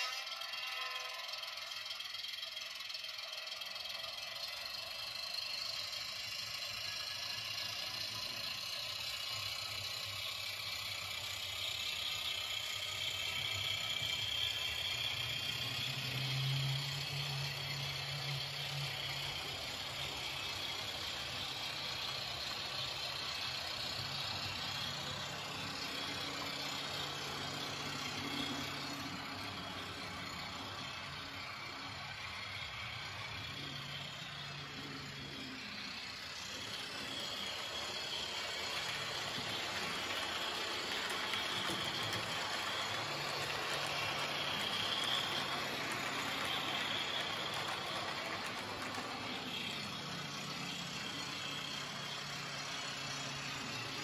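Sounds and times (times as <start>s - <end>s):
model train motors whirring: 0.0s - 54.0s.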